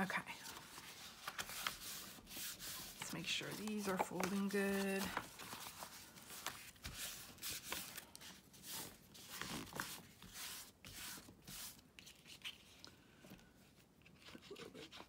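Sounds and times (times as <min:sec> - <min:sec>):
paper and card rustling: 0:00.0 - 0:12.9.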